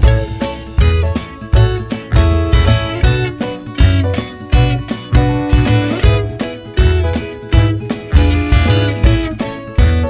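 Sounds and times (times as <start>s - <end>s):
plucked strings over bass beat: 0.0s - 10.0s.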